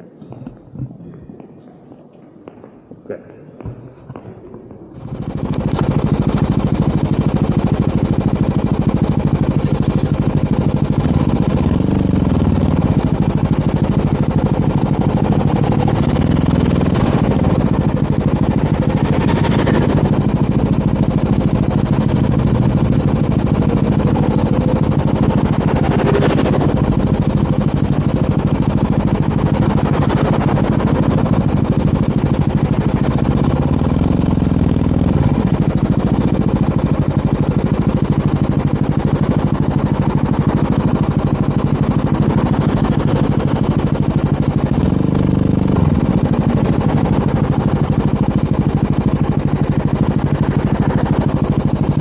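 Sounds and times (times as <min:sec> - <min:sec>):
motorcycle engine running: 0:05.0 - 0:52.0.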